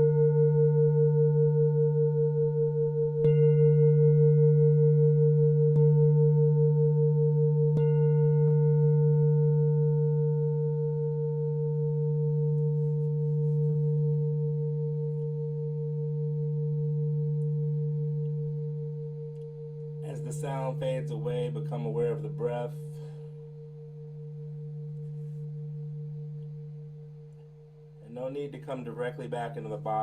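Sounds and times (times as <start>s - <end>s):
singing bowl ringing: 0.0s - 28.0s.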